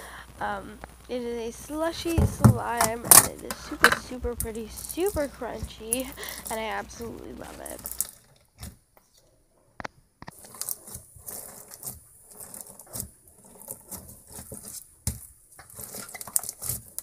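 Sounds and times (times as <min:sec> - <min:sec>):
slime crackling and popping: 0:00.0 - 0:08.8, 0:09.8 - 0:17.0.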